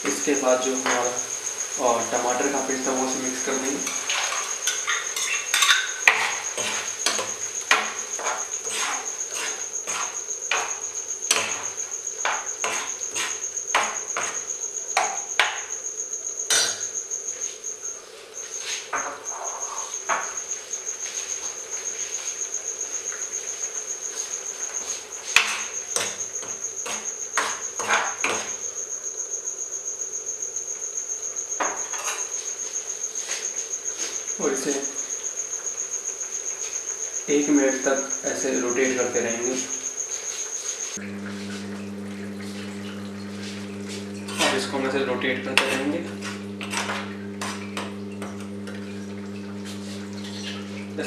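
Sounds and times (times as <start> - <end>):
cricket chirping: 0.0 - 51.0.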